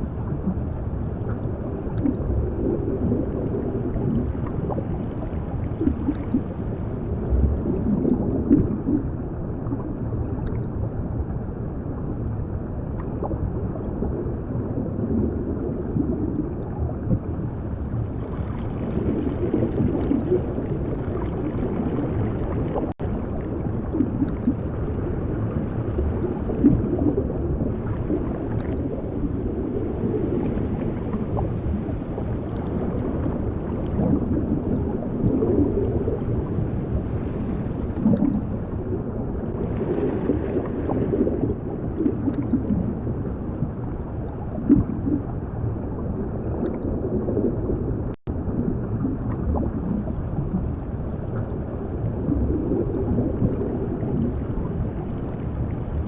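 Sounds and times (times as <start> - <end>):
low muffled rumble: 0.0 - 56.0
water bubbling and gurgling: 0.0 - 56.0.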